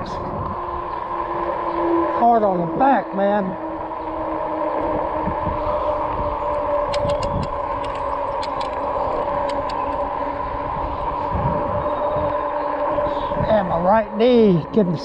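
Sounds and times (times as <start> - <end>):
electric bike riding hum: 0.0 - 15.0.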